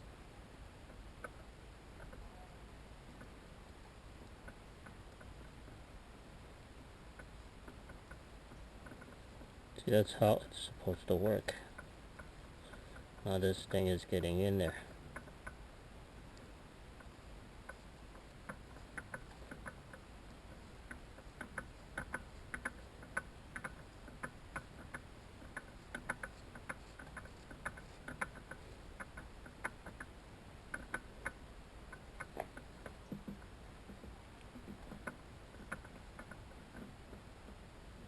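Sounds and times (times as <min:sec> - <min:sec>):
light clicks and taps of bearing parts: 0:00.8 - 0:02.3, 0:03.0 - 0:05.8, 0:07.1 - 0:15.6, 0:16.3 - 0:38.0.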